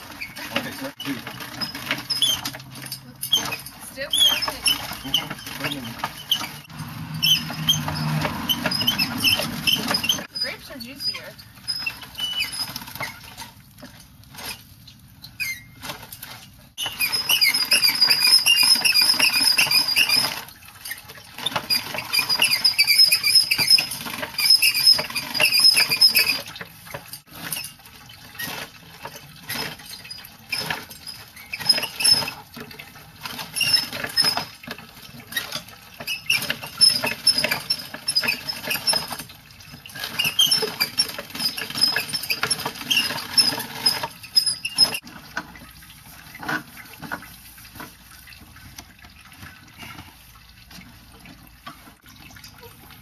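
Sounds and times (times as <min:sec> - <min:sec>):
crusher mechanism squeaking: 0:00.0 - 0:13.6, 0:15.2 - 0:45.2
fruit crusher crunching: 0:00.0 - 0:14.8, 0:15.6 - 0:47.2.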